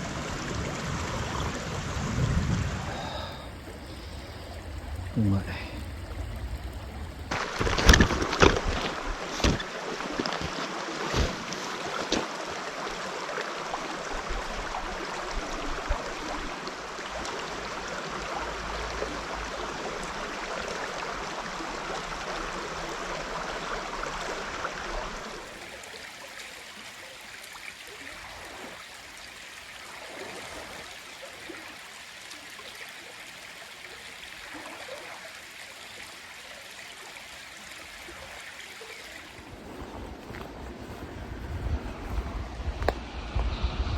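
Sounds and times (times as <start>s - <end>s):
mountain stream running: 0.0s - 43.9s.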